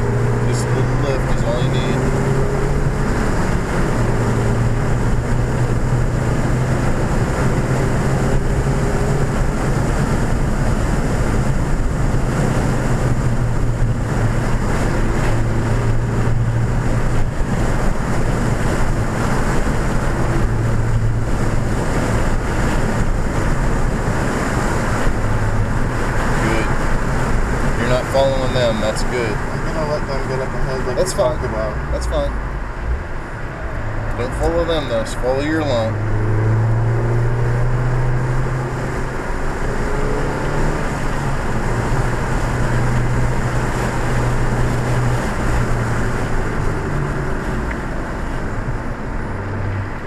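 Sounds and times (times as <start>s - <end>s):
car engine droning: 0.0s - 50.0s
road and wind noise: 0.0s - 50.0s.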